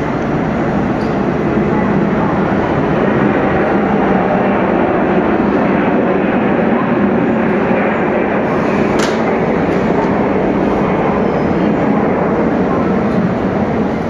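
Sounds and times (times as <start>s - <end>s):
electric train hum and hiss: 0.0s - 14.0s.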